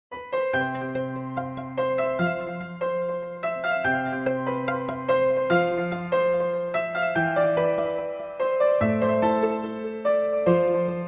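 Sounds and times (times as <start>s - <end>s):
electric piano ringtone melody: 0.2s - 11.0s.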